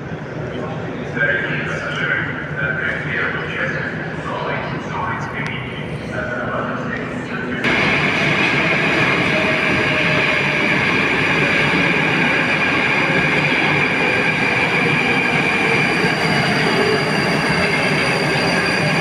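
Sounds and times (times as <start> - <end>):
metro train rushing with whine: 0.0 - 19.0.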